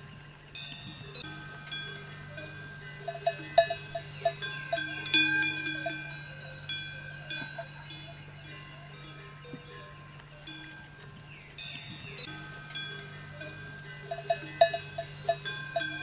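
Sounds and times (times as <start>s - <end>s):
metal bells clanking: 0.6s - 16.0s.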